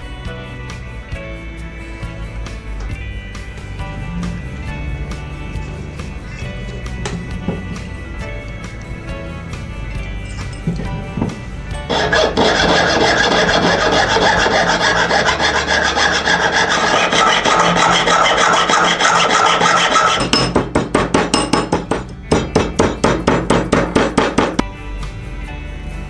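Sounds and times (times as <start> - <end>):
hand file rasping on metal: 2.9 - 24.6.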